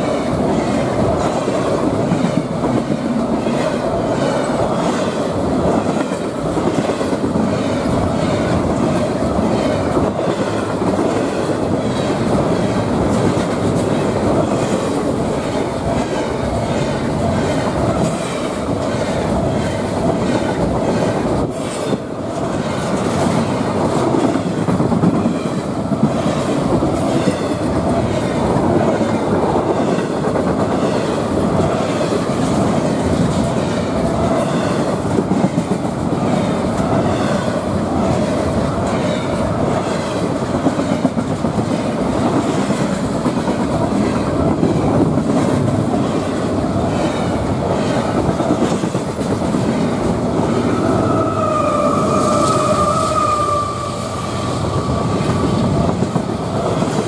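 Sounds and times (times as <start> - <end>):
sharp train clanks: 0.0 - 57.0
steel wheels rumbling on rail: 0.0 - 57.0.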